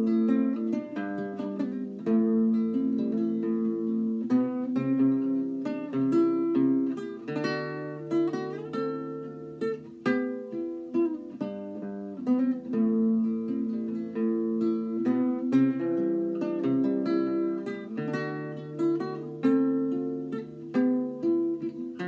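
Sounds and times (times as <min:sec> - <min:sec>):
fingerpicked classical guitar: 0:00.0 - 0:22.0.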